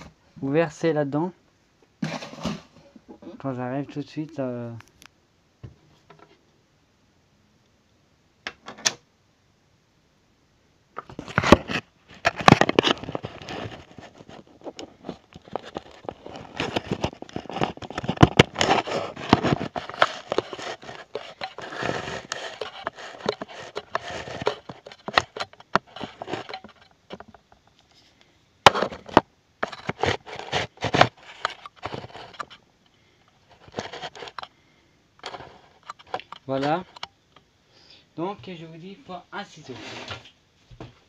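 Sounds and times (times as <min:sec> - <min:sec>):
rustling and scraping handling noise: 0:02.0 - 0:05.0, 0:05.6 - 0:06.5, 0:11.0 - 0:37.3, 0:38.2 - 0:41.0.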